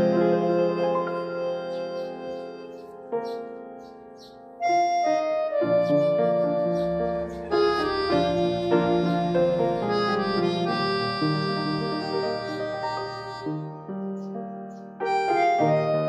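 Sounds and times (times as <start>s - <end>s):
keyboard tune with chords: 0.0s - 16.0s.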